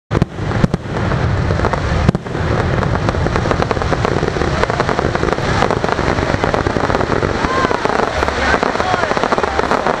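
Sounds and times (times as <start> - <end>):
firework bangs: 0.1 - 10.0
firework crackling: 0.1 - 10.0
low rumble: 0.1 - 10.0.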